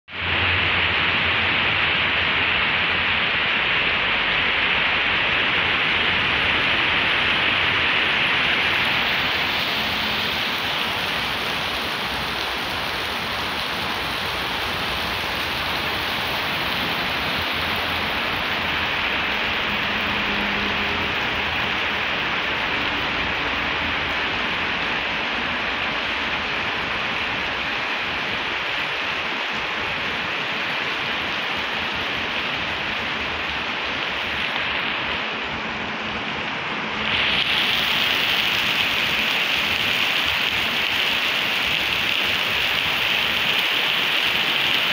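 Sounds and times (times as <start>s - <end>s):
heavy rain on wet pavement: 0.1s - 44.9s.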